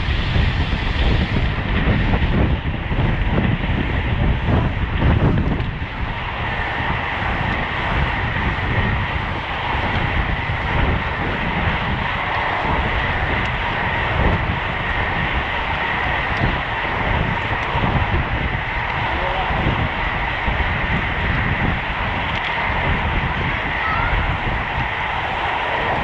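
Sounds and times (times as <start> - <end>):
bike road noise: 0.0 - 26.0
faint steady whine: 0.0 - 26.0
wind rushing on microphone: 0.0 - 26.0.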